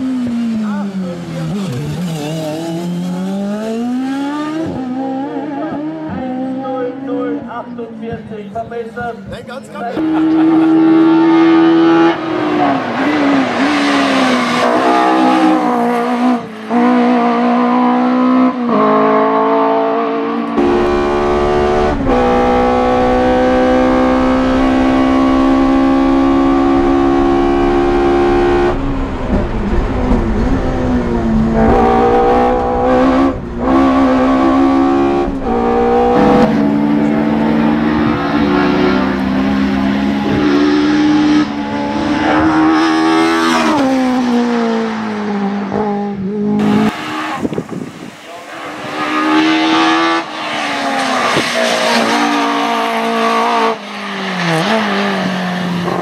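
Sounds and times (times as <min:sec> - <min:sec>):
race car engine revving high: 0:00.0 - 0:07.5, 0:09.8 - 0:56.0.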